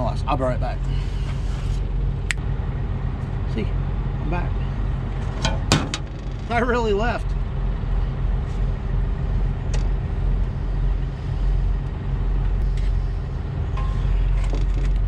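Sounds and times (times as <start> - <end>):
constant hum: 0.0 - 15.0
diesel engine idling: 0.0 - 15.0.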